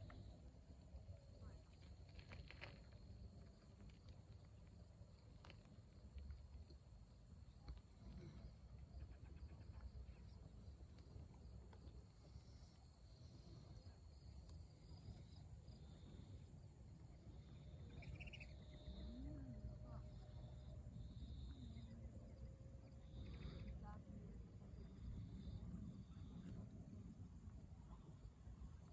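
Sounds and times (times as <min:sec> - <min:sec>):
faint low rumble: 0:00.0 - 0:28.9.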